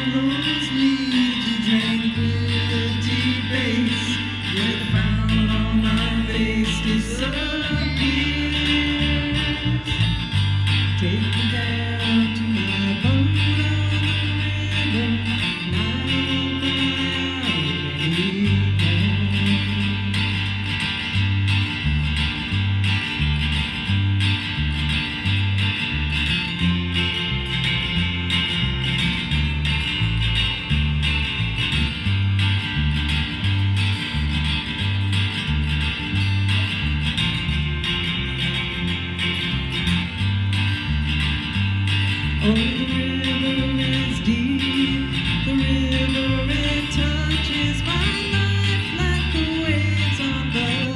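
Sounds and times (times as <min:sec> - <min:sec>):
low bass line: 0:00.0 - 0:50.9
strummed acoustic guitar: 0:00.0 - 0:50.9.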